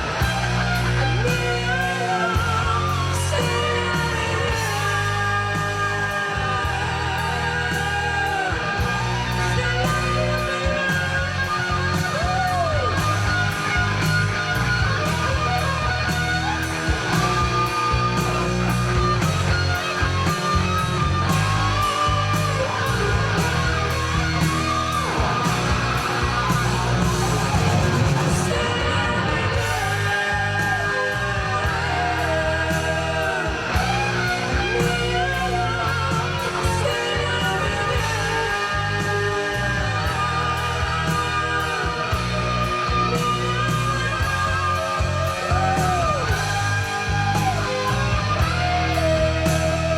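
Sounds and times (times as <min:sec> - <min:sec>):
rock music with singing: 0:00.0 - 0:49.9.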